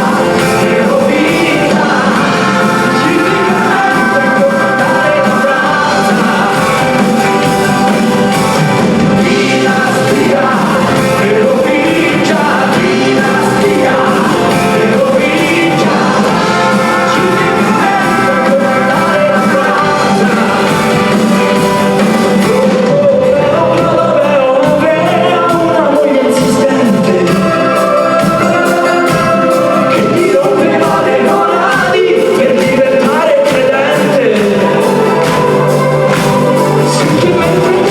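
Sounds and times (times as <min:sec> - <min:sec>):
live band playing: 0:00.0 - 0:37.9
person singing: 0:00.0 - 0:37.9.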